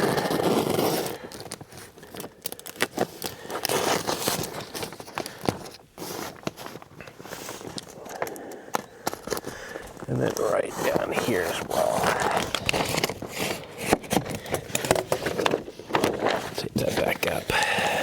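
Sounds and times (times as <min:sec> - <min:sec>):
materials rustling and scraping: 0:00.0 - 0:17.5.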